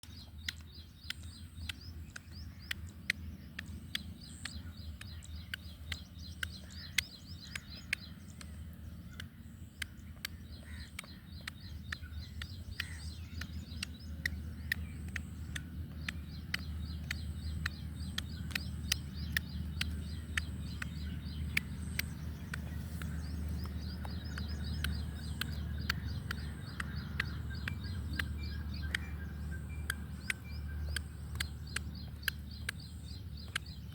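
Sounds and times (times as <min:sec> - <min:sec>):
sharp clicks: 0:00.0 - 0:33.9
small birds chirping: 0:00.0 - 0:33.9
steady low hum: 0:00.0 - 0:33.9.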